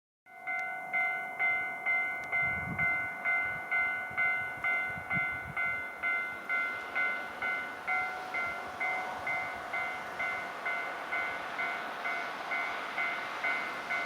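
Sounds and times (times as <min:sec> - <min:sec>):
level-crossing warning bell: 0:00.3 - 0:14.0.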